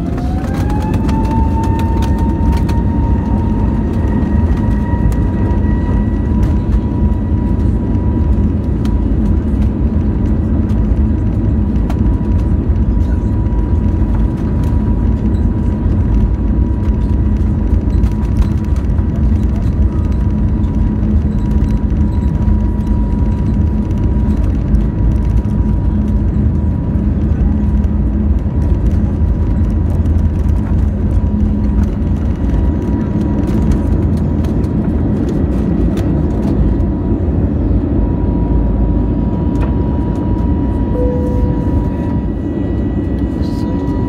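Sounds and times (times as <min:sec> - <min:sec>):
high engine whine: 0:00.0 - 0:44.0
jet engine rumble in cabin: 0:00.0 - 0:44.0.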